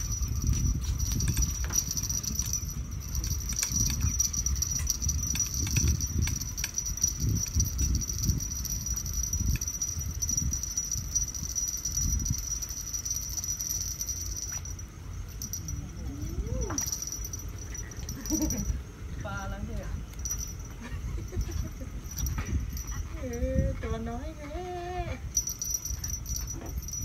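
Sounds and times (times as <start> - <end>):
low rumbling noise: 0.0 - 27.0
night insects trilling: 0.0 - 27.0.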